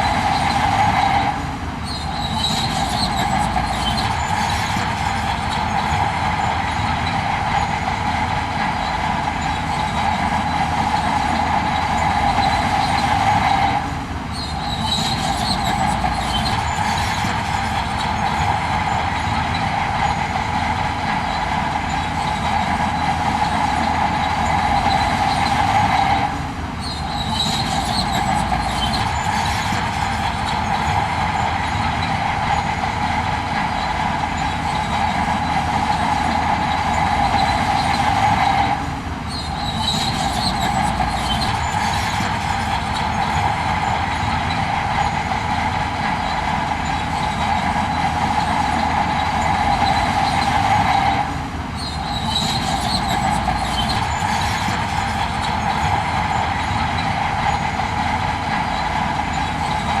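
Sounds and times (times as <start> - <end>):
diesel engine rumble: 0.0 - 60.0
metallic squeal of tracks: 0.0 - 60.0.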